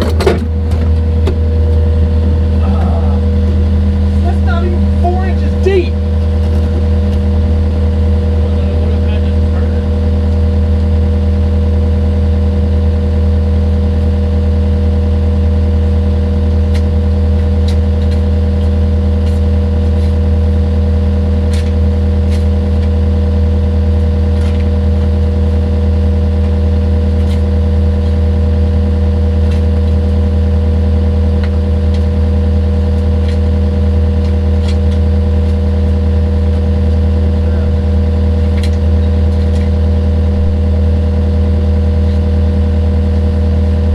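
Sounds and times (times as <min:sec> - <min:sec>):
digging machine engine running: 0:00.0 - 0:43.9.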